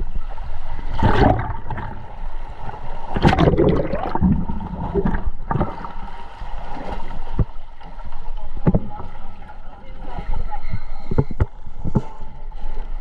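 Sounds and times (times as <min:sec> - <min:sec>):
water sloshing and gurgling: 0:00.0 - 0:13.0.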